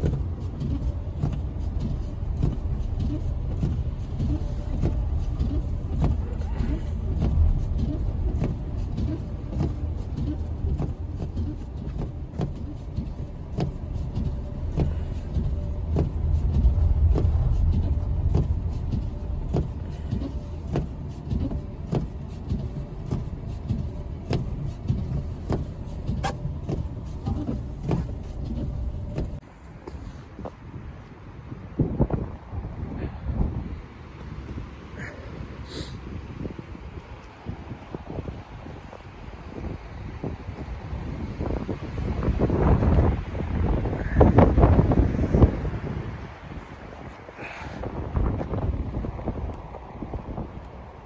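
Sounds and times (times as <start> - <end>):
car engine and tyres rumbling: 0.0 - 51.0.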